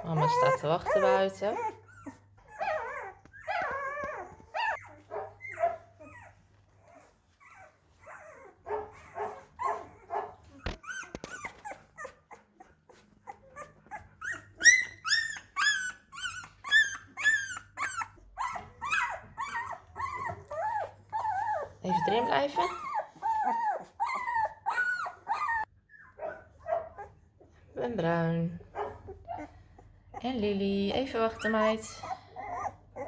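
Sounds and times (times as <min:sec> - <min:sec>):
puppy whimpering and squealing: 0:00.0 - 0:27.5, 0:28.7 - 0:30.4, 0:31.0 - 0:33.0.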